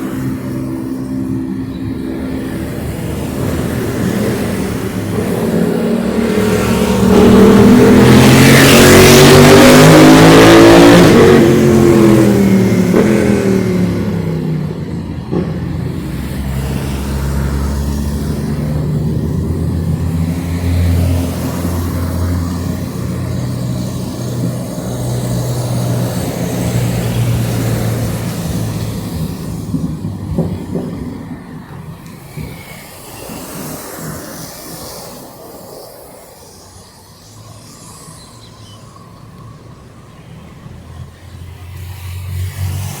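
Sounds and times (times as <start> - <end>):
car passing by: 0.0 - 43.0
traffic engine sound: 0.0 - 43.0.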